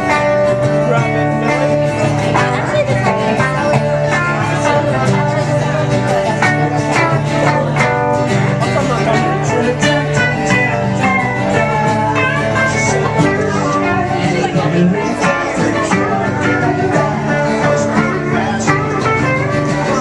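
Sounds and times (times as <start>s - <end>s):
guitar-led band music: 0.0s - 20.0s.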